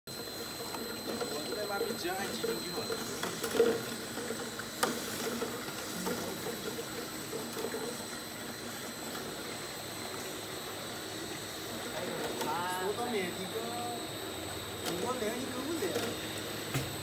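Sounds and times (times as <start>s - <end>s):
bottling machine hum: 0.1s - 17.0s.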